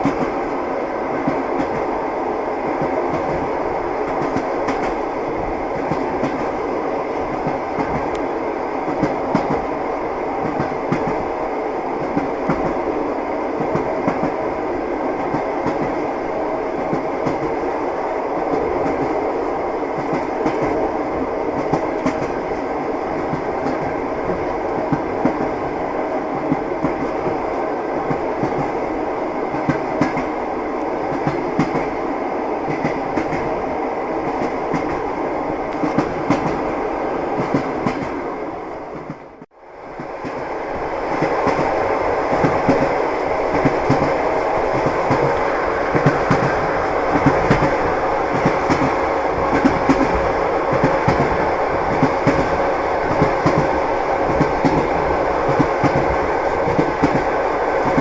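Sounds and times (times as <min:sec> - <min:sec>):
train wheels clattering on rails: 0:00.0 - 0:32.0, 0:32.6 - 0:33.6, 0:34.2 - 0:38.3, 0:38.9 - 0:58.0.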